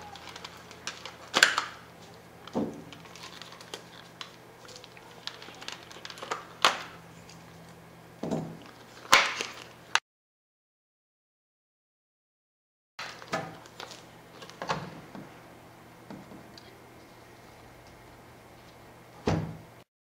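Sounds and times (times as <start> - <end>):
faint hum: 0.0 - 10.0, 13.0 - 19.8.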